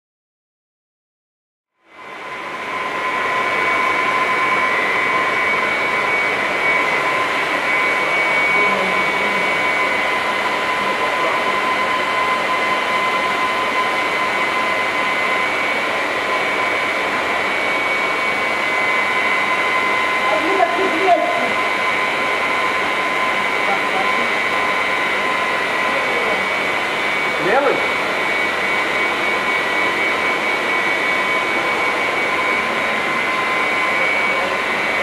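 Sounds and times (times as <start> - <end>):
electric fan rushing: 2.0 - 35.0
high whining tones: 2.0 - 35.0.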